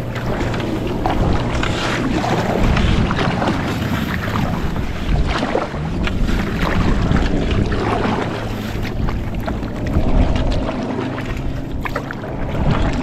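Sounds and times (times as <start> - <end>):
paddle strokes in water: 0.0 - 13.0
reeds brushing along hull: 0.0 - 13.0
wind on microphone: 0.0 - 13.0.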